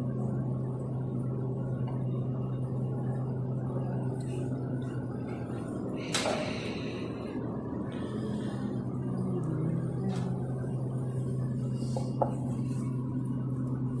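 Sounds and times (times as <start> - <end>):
espresso machine humming: 0.0 - 14.0.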